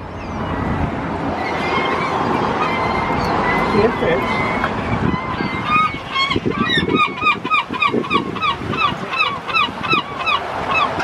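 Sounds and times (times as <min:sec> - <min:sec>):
surf: 0:00.0 - 0:11.0
wind noise: 0:00.0 - 0:11.0
gull calling: 0:01.4 - 0:11.0.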